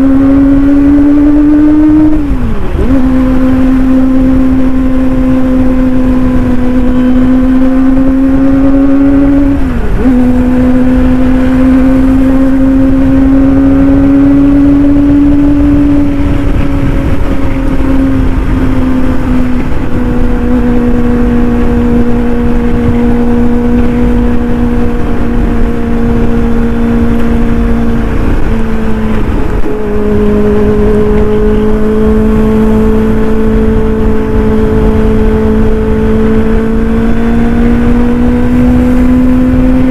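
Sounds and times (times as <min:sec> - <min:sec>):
motorcycle engine at speed: 0:00.0 - 0:39.9.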